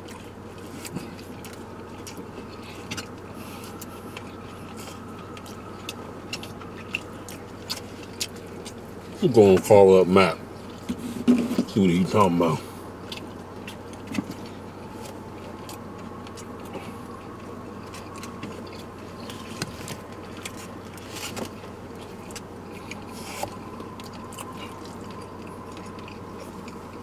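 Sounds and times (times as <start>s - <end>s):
people chewing: 0.0s - 27.0s
steady low hum: 0.0s - 27.0s.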